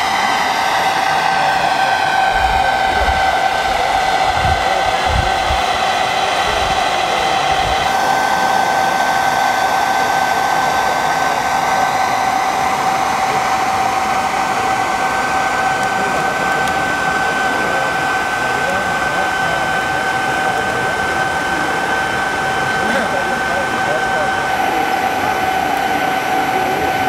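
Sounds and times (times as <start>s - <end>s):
electric blower fan whine: 0.0s - 27.0s.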